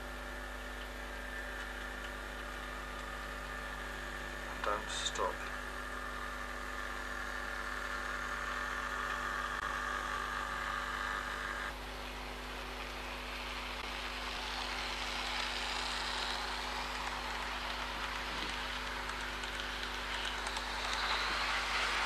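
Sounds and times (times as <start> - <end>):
hissing running noise: 0.0 - 22.0
model train wheels on track: 0.0 - 22.0
small electric motor whine: 0.0 - 22.0.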